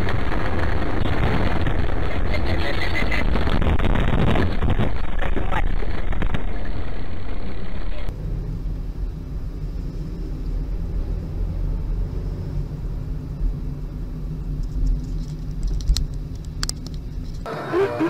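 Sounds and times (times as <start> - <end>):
car engine and tyres rumbling: 0.0 - 18.0
road and wind noise: 0.0 - 18.0.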